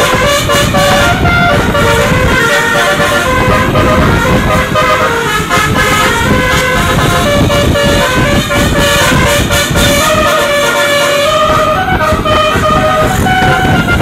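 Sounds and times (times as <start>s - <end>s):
bus horn playing a melody: 0.0s - 14.0s
engine and road noise: 0.0s - 14.0s.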